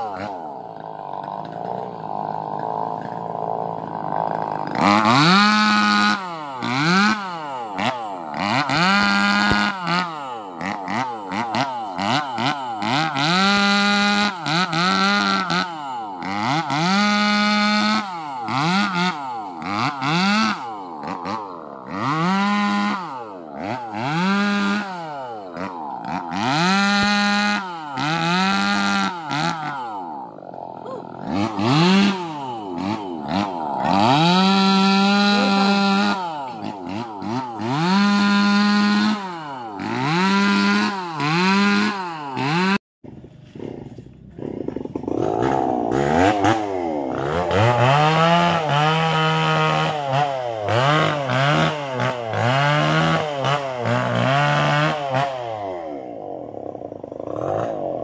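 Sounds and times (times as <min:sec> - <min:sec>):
chainsaw revving: 0:00.0 - 0:42.8, 0:43.5 - 0:58.0.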